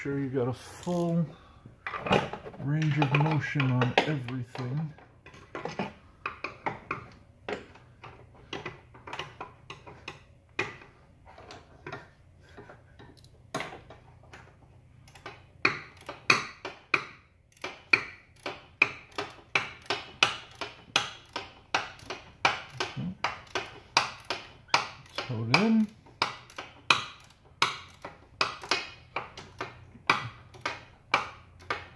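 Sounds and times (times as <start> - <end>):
hand ratchet clicking: 6.2 - 31.9.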